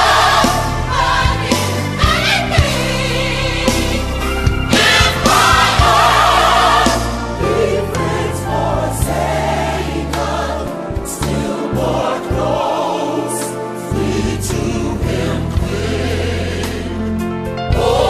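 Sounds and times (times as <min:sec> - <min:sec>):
gospel choir singing with band: 0:00.0 - 0:18.0.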